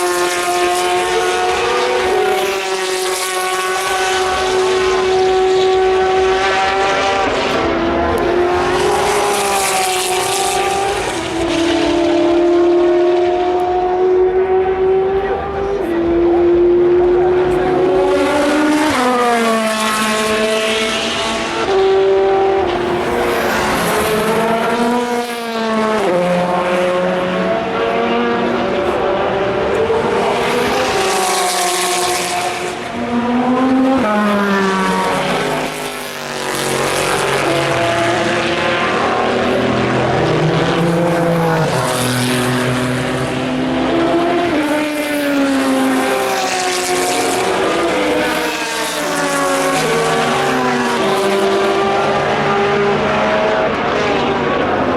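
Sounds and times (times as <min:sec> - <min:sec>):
race cars passing at speed: 0:00.0 - 0:54.9.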